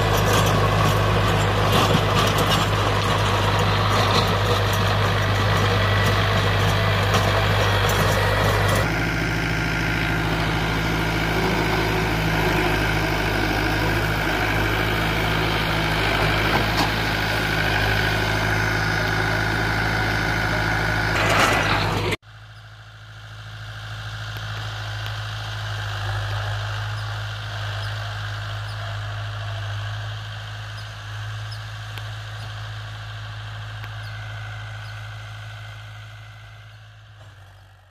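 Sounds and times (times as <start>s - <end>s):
high engine whine: 0.0s - 37.9s
tractor diesel engine running: 0.0s - 37.9s.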